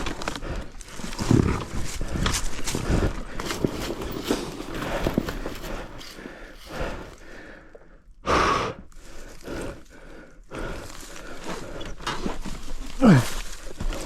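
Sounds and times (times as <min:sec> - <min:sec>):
person breathing hard: 0:00.2 - 0:12.0.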